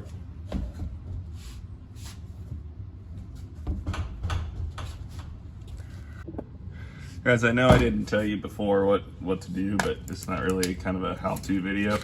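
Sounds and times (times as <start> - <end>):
low garage rumble: 0.0 - 12.0.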